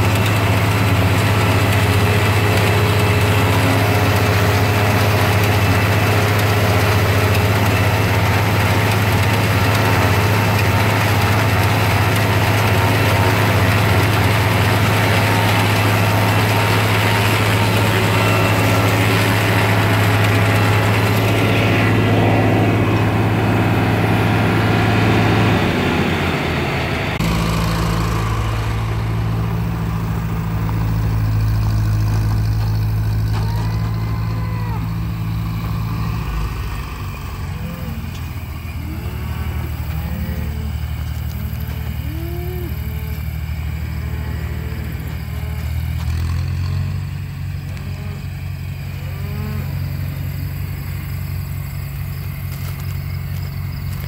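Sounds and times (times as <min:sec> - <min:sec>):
forage chopper clatter and whir: 0:00.0 - 0:54.0
tractor engine drone: 0:00.0 - 0:54.0.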